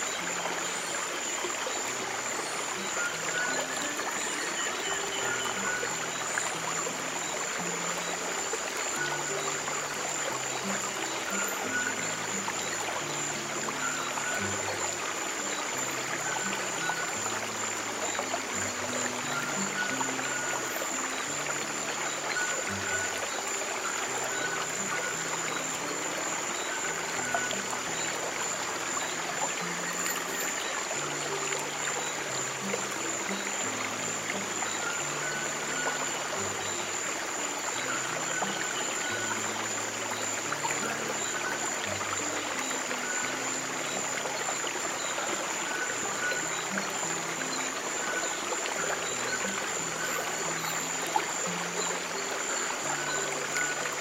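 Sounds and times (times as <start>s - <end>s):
soft slow piano music: 0.1s - 54.0s.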